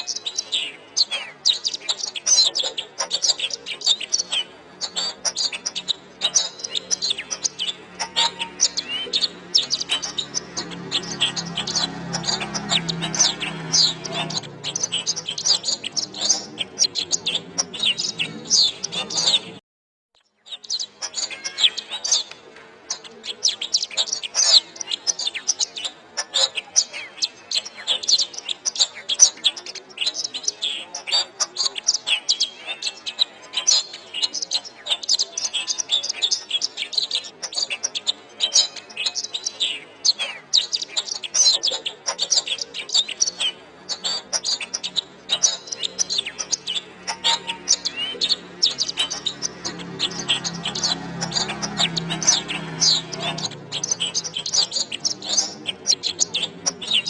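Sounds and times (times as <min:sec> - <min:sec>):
canary singing: 0:00.0 - 0:19.6, 0:20.2 - 0:57.0.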